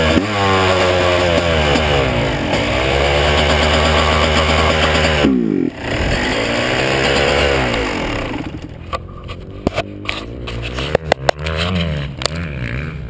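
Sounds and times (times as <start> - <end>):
two-stroke engine revving: 0.0 - 13.0
sharp clicks and knocks: 1.2 - 5.4, 6.1 - 12.4.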